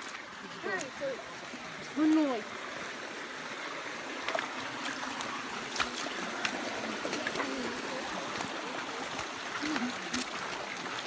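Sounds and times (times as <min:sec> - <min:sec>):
flip-flop footsteps on wet rocks: 0:00.0 - 0:11.0
river water running over stones: 0:00.0 - 0:11.0.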